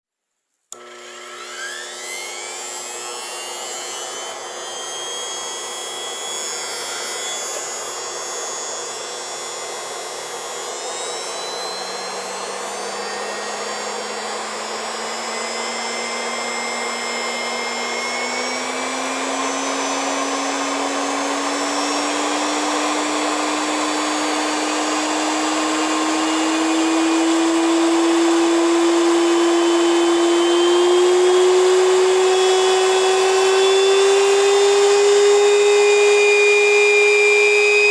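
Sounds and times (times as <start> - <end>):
dog dryer blowing air: 0.7 - 37.9.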